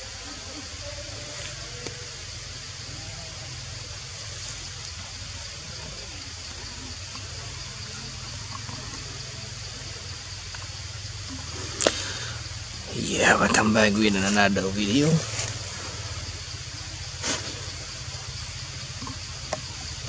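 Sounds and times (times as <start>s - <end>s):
even hiss: 0.0s - 20.0s.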